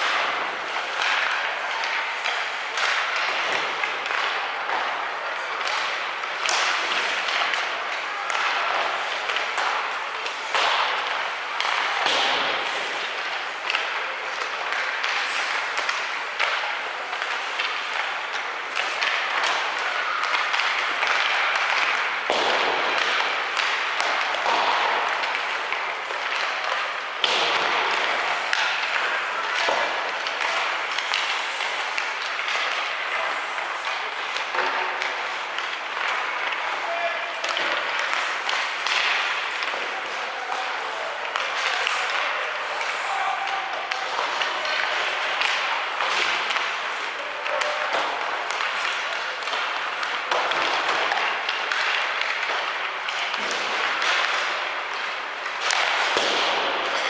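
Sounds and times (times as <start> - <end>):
hockey sticks knocking puck: 0.0 - 57.0
skates on ice: 0.0 - 57.0
spectators' voices: 0.0 - 57.0.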